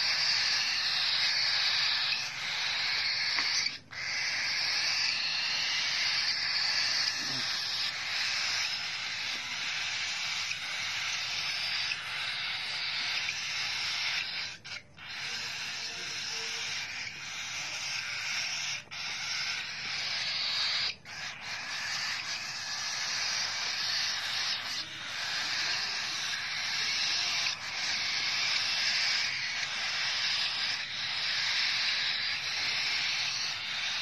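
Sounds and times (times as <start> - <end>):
chicks raspy begging calls: 0.0 - 34.0.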